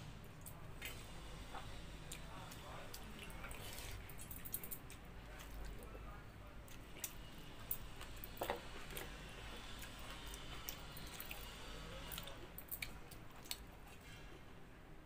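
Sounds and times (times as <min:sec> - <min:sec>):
wet squishing of rice: 0:00.0 - 0:14.3
chewing: 0:00.3 - 0:06.0, 0:06.6 - 0:14.2.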